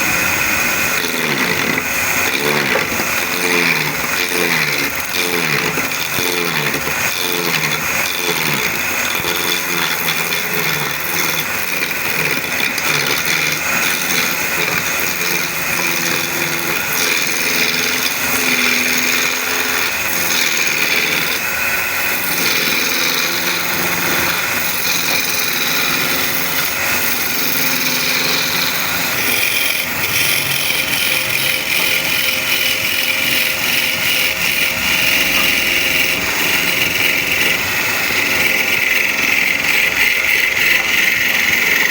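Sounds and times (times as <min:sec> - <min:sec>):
turning tool cutting wood: 0:00.0 - 0:41.9
wood lathe running: 0:00.0 - 0:41.9.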